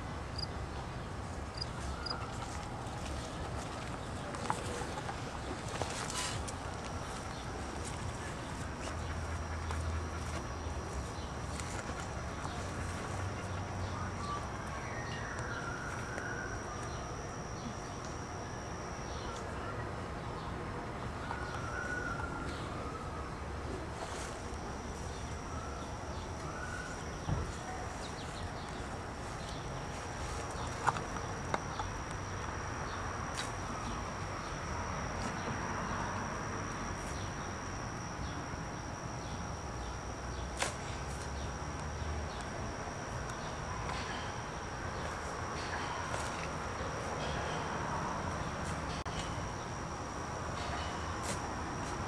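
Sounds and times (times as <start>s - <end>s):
insects trilling: 0.2s - 0.7s, 1.4s - 23.2s, 23.9s - 52.0s.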